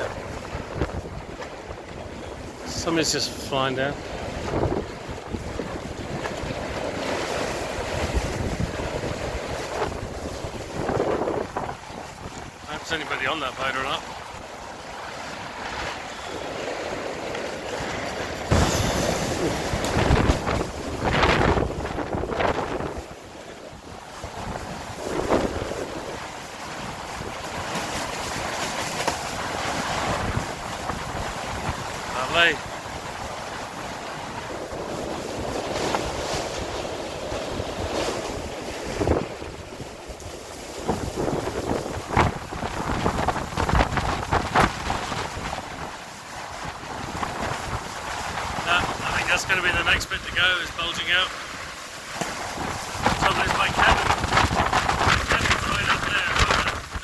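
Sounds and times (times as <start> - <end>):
strong gusting wind: 0.0 - 57.0
wind buffeting microphone: 0.0 - 57.0.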